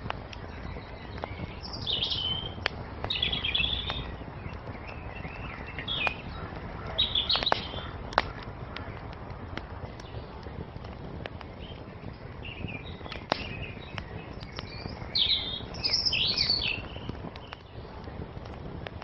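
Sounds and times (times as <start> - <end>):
small birds chirping: 0.0 - 19.0
wood fire crackling: 0.0 - 19.0.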